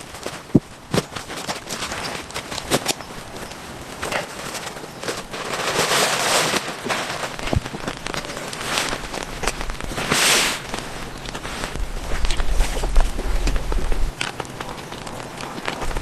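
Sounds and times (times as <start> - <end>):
heavy rain pattering: 0.0 - 16.0
sharp crackling hits: 0.0 - 16.0.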